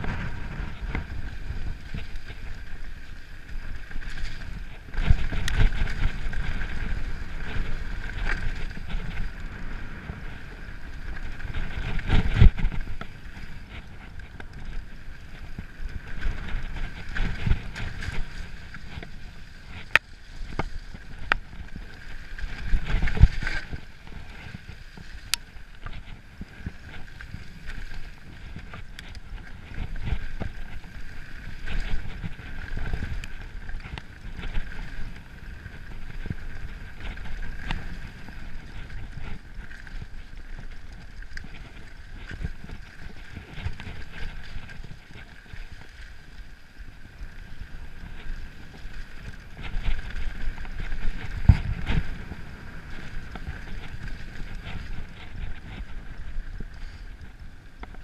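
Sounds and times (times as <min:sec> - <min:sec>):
bike rattling and clattering: 0:00.0 - 0:58.0
wind rushing over microphone: 0:00.0 - 0:58.0.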